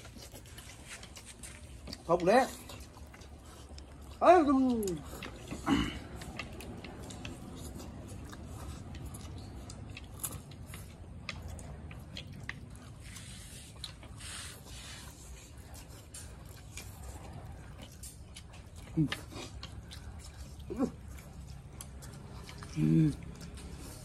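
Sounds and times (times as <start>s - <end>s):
people slurping and chewing noodles: 0.0s - 24.0s.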